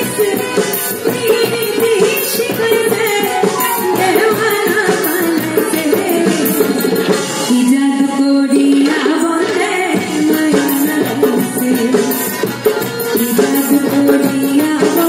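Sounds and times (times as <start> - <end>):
banjo: 0.0 - 15.0
harmonium: 0.0 - 15.0
tabla: 0.0 - 15.0
woman singing into a microphone: 0.0 - 15.0.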